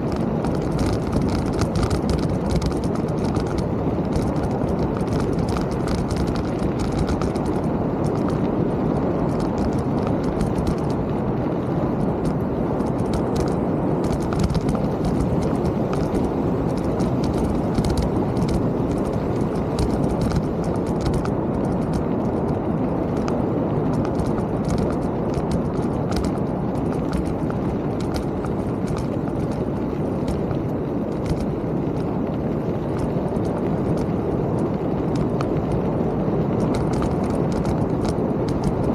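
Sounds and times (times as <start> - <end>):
bike clicks and rattles: 0.0 - 38.9
wind and tyre rumble: 0.0 - 38.9.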